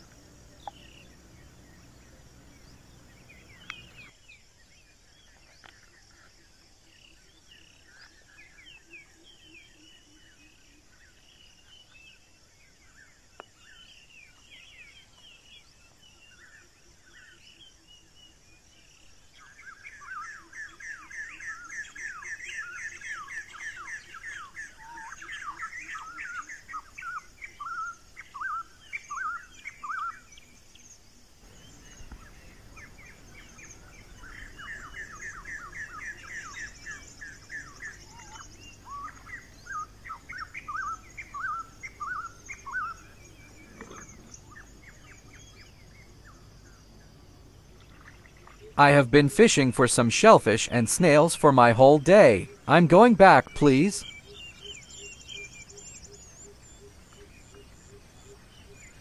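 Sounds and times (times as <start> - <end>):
small birds chirping: 0.0 - 48.8, 51.0 - 59.0.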